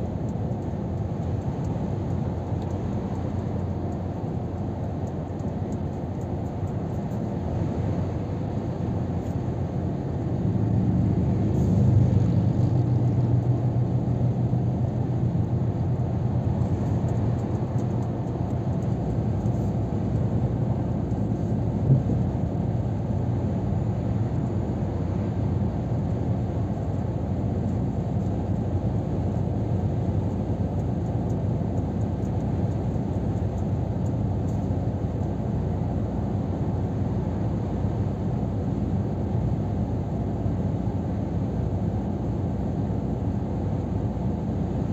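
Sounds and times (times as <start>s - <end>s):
tyre and road noise: 0.0s - 39.3s
truck engine drone: 0.0s - 44.9s.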